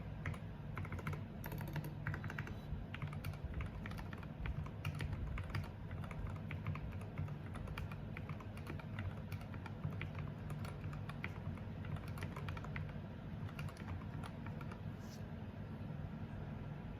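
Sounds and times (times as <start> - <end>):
mechanical keyboard typing: 0.2 - 14.9.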